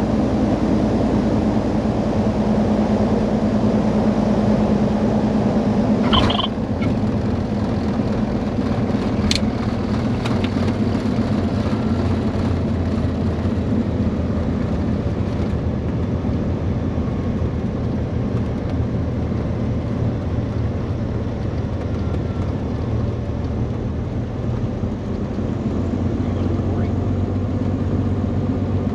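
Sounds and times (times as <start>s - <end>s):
piston aircraft engine droning: 0.0s - 28.9s.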